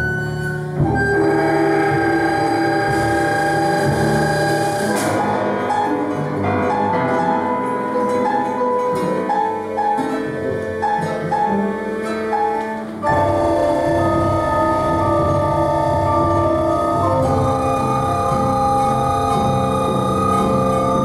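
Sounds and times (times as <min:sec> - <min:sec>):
mixed ensemble playing contemporary music: 0:00.0 - 0:21.0.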